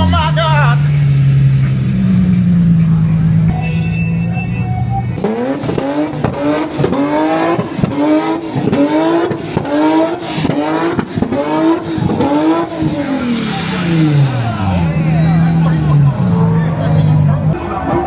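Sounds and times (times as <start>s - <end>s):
car engine revving hard: 0.0s - 3.6s, 5.2s - 18.0s.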